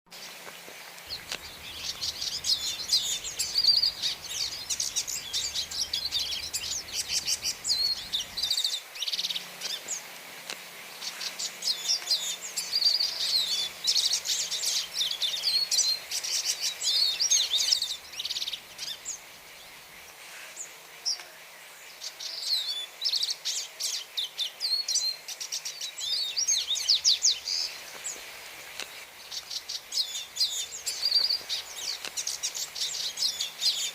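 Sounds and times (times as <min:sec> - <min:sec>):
bird twittering song: 0:00.2 - 0:10.1, 0:10.9 - 0:33.9.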